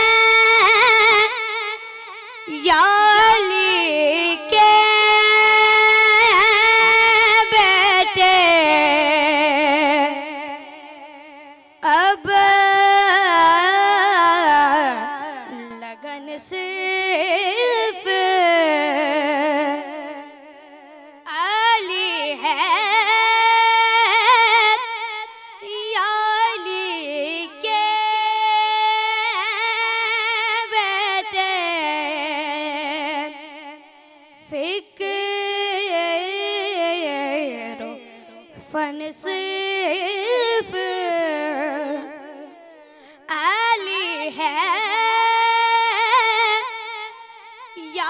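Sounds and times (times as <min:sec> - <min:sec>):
boy singing unaccompanied: 0:00.0 - 0:01.8, 0:02.4 - 0:20.7, 0:21.3 - 0:33.7, 0:34.4 - 0:48.0.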